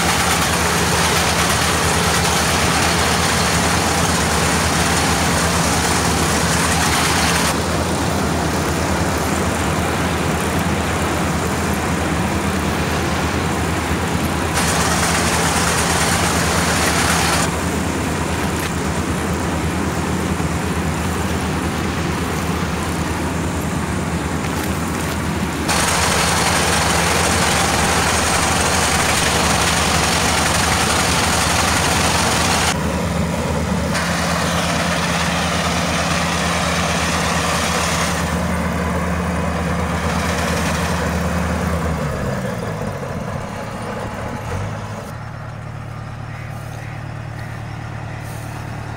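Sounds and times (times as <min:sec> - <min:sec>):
threshing and cutting hiss: 0:00.0 - 0:08.0, 0:08.6 - 0:19.5, 0:20.7 - 0:32.8, 0:33.9 - 0:42.8
diesel engine drone: 0:00.0 - 0:48.9.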